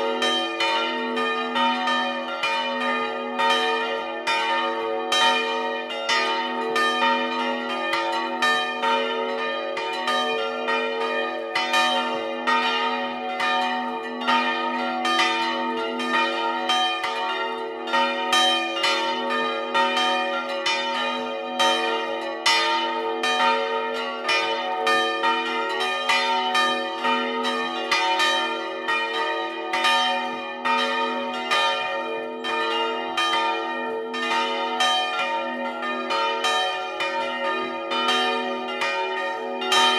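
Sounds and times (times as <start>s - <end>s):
church bells pealing: 0.0s - 39.9s
low hum of large bells: 0.0s - 39.9s.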